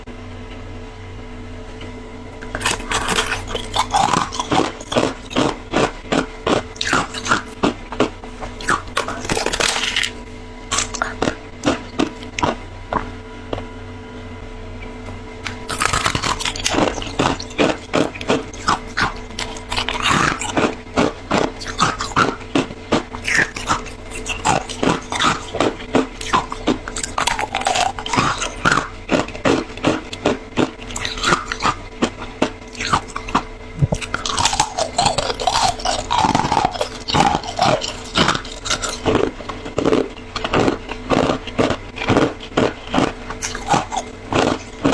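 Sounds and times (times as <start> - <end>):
low steady hum: 0.0 - 44.9
crunching and chewing frost: 1.7 - 13.8, 14.9 - 44.9.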